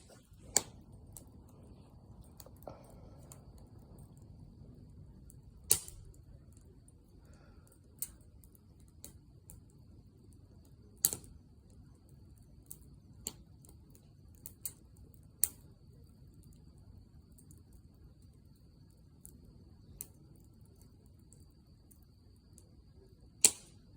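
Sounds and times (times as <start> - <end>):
campfire crackling: 0.0 - 23.9
firewood popping: 0.0 - 23.9.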